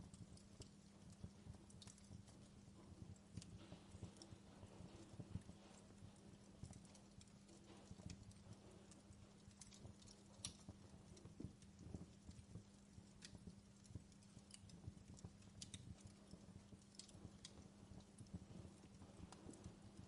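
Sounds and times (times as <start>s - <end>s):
steady low hum: 0.0s - 20.0s
wood fire crackling: 0.0s - 20.0s.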